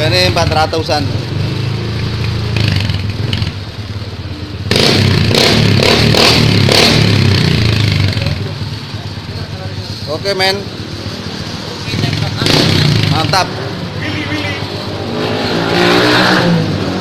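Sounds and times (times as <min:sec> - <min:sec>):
scooter engine revving: 0:00.0 - 0:17.0.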